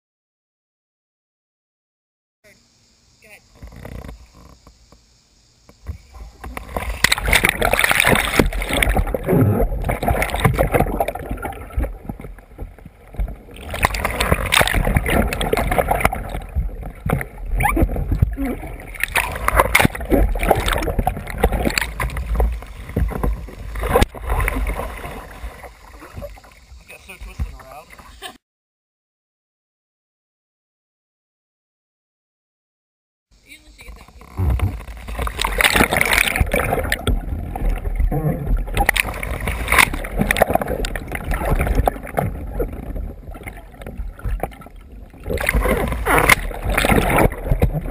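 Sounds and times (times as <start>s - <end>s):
water splashing around a kayak: 3.2s - 28.4s, 33.4s - 47.9s.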